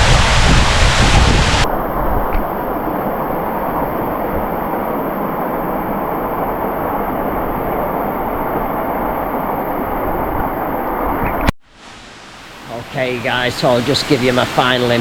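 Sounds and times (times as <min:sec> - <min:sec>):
waterfall rushing: 0:00.0 - 0:11.1, 0:11.8 - 0:15.0.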